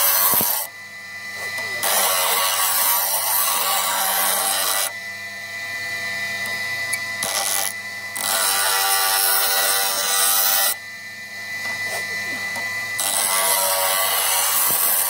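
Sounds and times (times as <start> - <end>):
power grinder running: 0.0 - 15.0.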